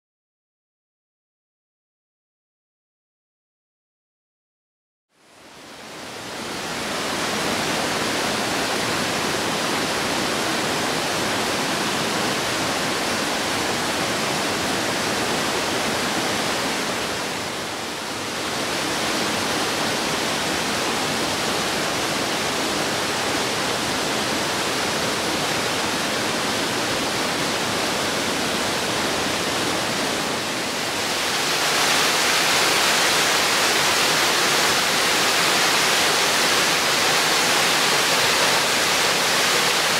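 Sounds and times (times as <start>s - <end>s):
waterfall rushing: 5.5s - 39.9s.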